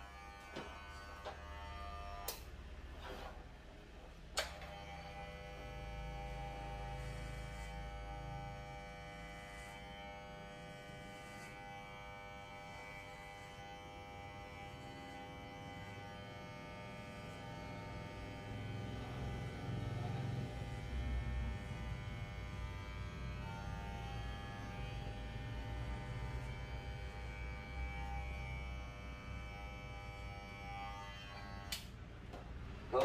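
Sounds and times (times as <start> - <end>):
electric hair clipper buzzing: 0.0 - 2.6, 4.4 - 32.0.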